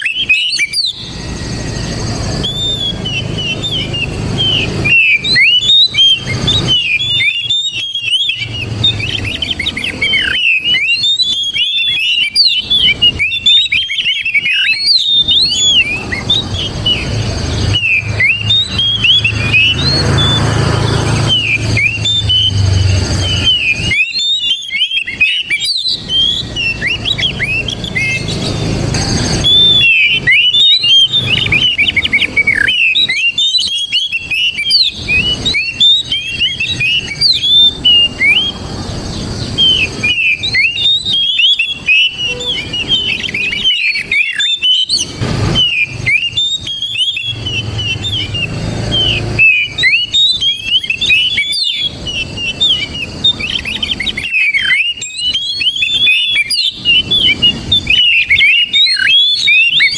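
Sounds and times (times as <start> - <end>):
bird singing whistled notes: 0.0 - 59.9.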